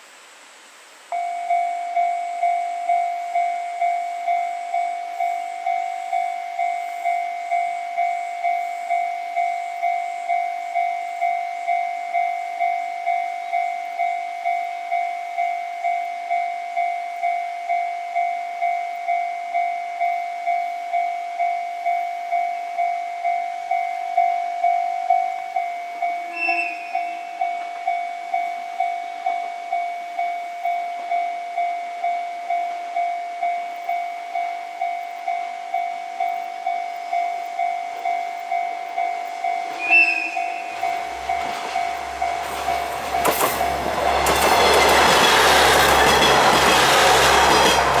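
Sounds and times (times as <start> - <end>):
level crossing warning bell: 1.1 - 48.0.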